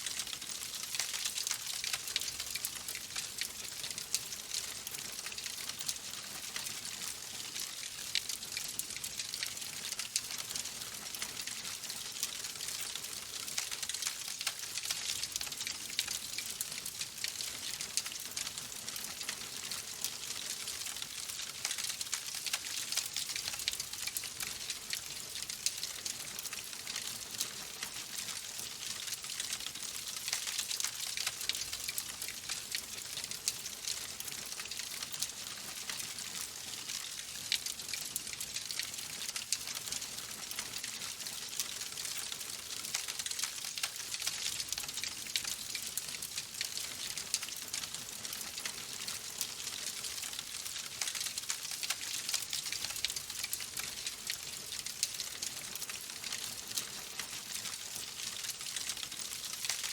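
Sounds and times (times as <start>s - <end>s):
log fire crackling: 0.1s - 6.2s, 7.0s - 15.4s, 16.0s - 27.5s, 28.2s - 36.4s, 38.6s - 54.1s.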